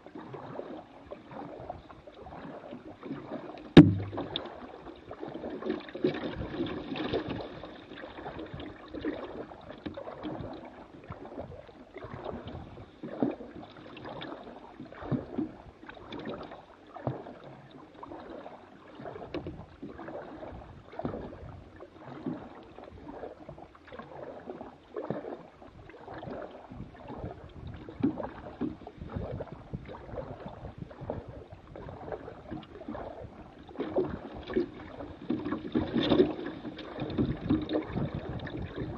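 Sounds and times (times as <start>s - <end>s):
paddle splashing water: 0.0s - 38.9s.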